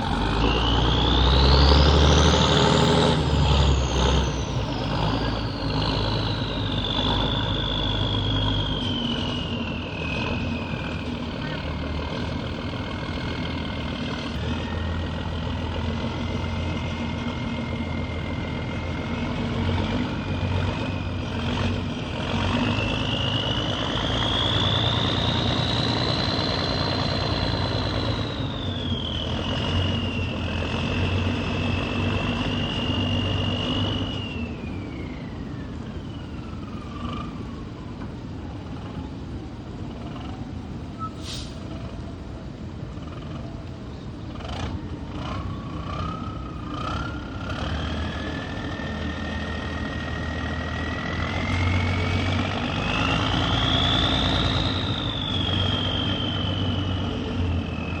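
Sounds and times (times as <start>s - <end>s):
diesel engine under load: 0.0s - 58.0s
high engine whine: 0.0s - 58.0s.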